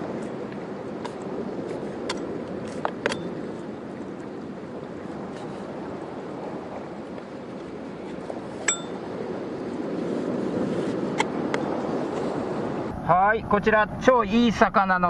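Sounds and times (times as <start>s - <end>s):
surf on a rocky shore: 0.0s - 15.0s.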